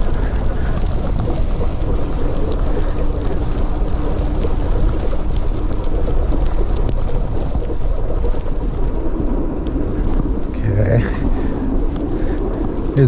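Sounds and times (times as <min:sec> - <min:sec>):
bike tyres rolling through snow: 0:00.0 - 0:13.0
crackles: 0:00.0 - 0:13.0
faint steady hum: 0:00.0 - 0:13.0
wind buffeting microphone: 0:00.0 - 0:13.0.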